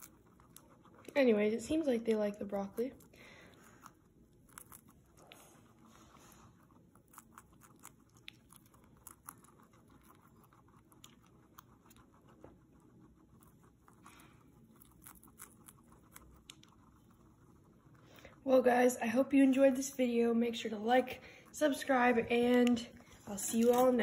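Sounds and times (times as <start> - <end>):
guinea pig chewing crunchily: 0.0 - 24.0.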